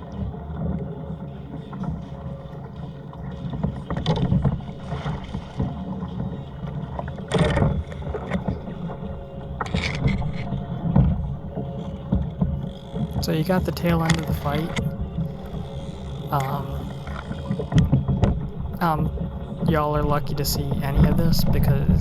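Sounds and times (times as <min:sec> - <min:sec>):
water slapping against kayak hull: 0:00.0 - 0:22.0
water splashes: 0:00.0 - 0:22.0.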